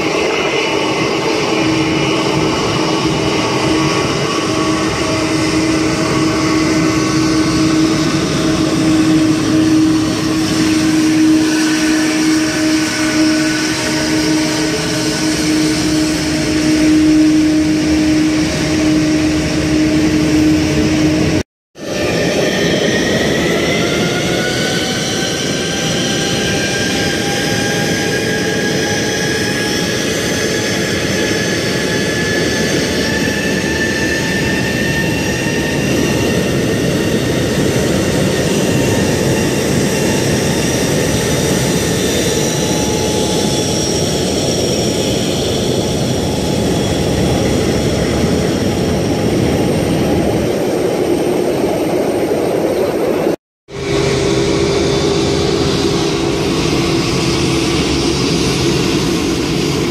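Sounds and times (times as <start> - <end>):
jet engines roaring with turbine whine: 0.0 - 59.9.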